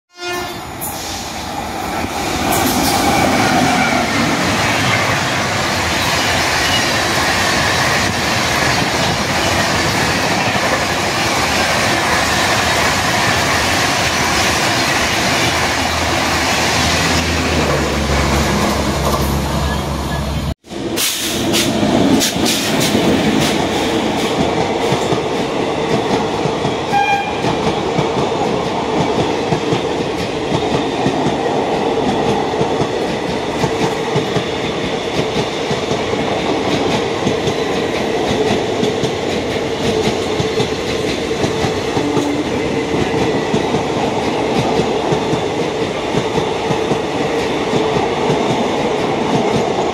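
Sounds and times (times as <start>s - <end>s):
train coaches rushing past: 0.3s - 49.9s.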